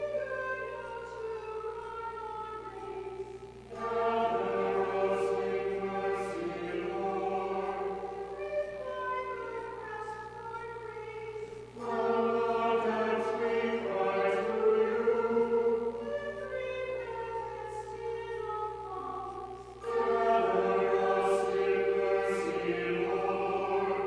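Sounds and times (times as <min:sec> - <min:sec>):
congregation singing a hymn: 0:00.0 - 0:24.0.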